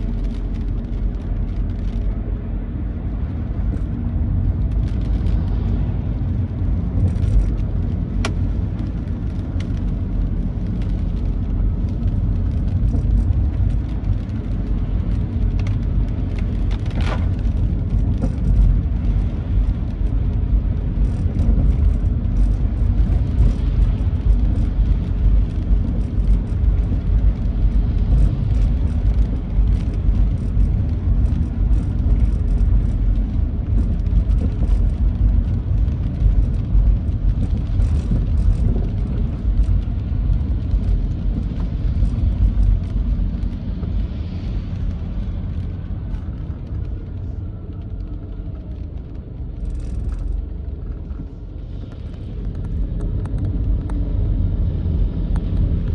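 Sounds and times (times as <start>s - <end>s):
vehicle driving on wet road: 0.0s - 55.9s.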